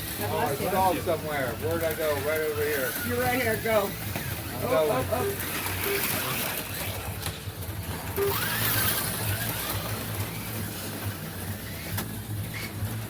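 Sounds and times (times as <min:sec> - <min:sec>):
slot car motors whirring: 0:00.0 - 0:13.0.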